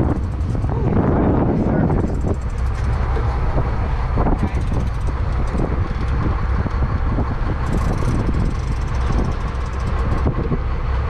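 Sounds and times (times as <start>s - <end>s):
boat engine rumbling: 0.0s - 11.0s
wind and sea noise: 0.0s - 11.0s.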